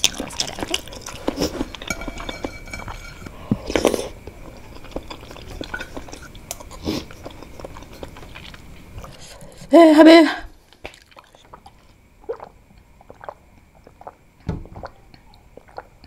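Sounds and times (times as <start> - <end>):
chewing and wet mouth sounds: 0.0 - 9.3, 10.6 - 16.0.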